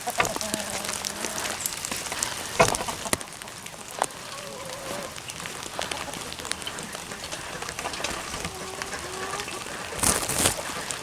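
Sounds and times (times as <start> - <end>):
steady rain falling: 0.0 - 11.0
water drips: 0.0 - 11.0.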